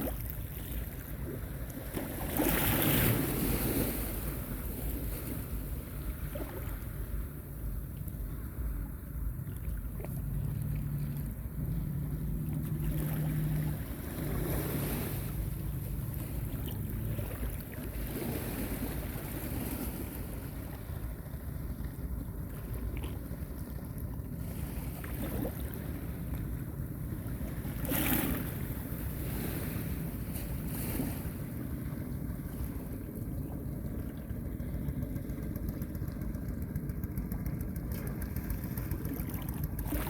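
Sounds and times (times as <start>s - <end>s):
small waves washing on beach: 0.0s - 34.1s.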